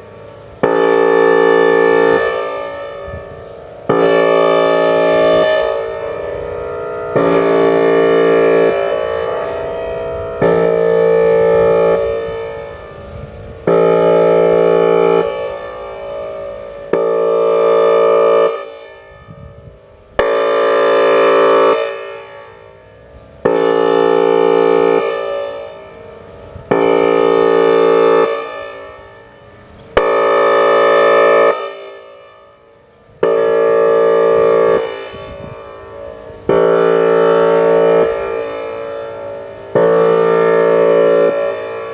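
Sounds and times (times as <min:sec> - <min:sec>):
warning siren horn blasts: 0:00.0 - 0:41.9.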